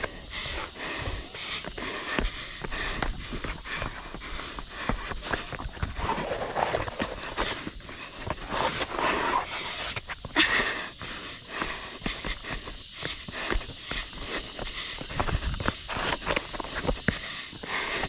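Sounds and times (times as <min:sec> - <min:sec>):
footsteps scuffing on rock: 0:00.0 - 0:10.4, 0:13.1 - 0:17.6
person panting heavily: 0:00.0 - 0:18.0.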